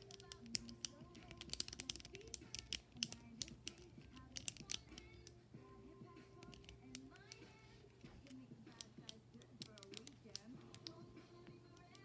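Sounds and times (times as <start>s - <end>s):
plastic fidget toy clicking: 0.0s - 5.4s, 6.3s - 12.0s
soft background music: 0.0s - 12.0s.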